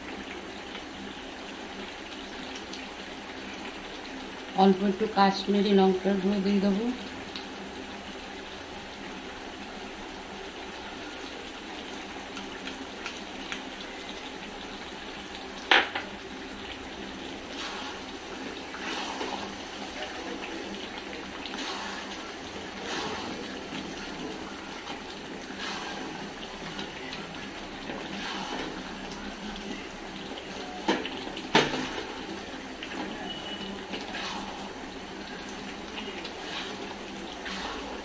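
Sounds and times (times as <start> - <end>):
curry hissing in a pan: 0.0 - 38.0.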